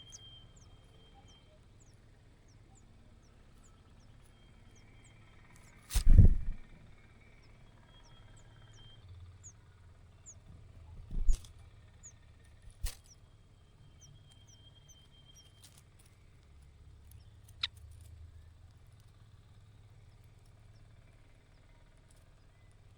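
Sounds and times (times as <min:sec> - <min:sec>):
nestling birds cheeping: 0:00.0 - 0:22.9.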